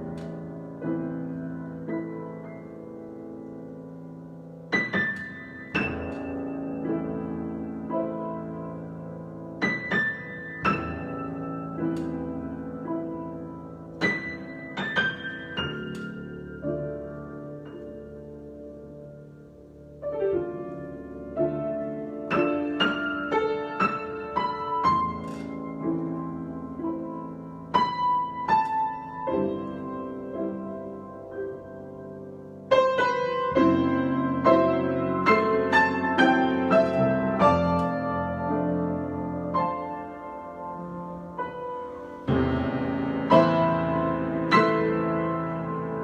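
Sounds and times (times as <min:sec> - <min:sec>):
solo piano improvising: 0:00.0 - 0:46.0.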